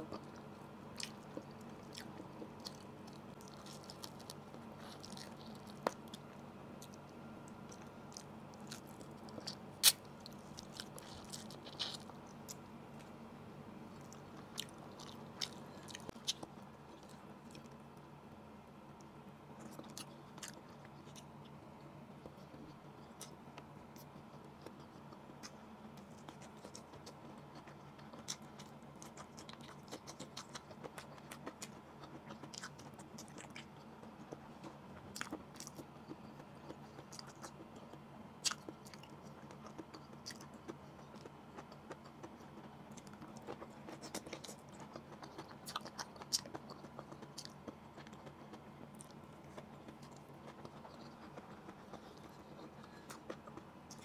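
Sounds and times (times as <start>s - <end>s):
person chewing: 0.0s - 13.2s, 13.9s - 17.8s, 19.6s - 54.0s
faint steady hum: 0.0s - 54.0s.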